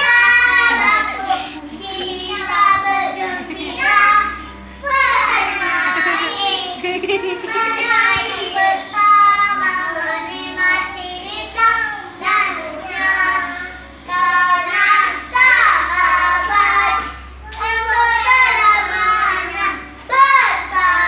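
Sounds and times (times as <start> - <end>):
children singing pop song: 0.0 - 21.0.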